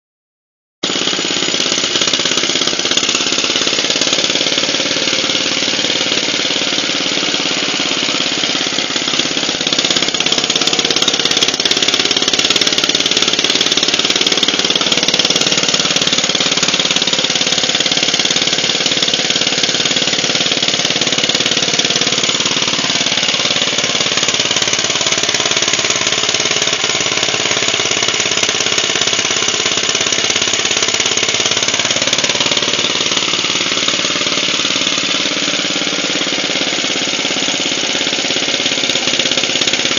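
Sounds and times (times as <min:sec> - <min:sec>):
stationary engine knocking: 0:00.8 - 0:39.9.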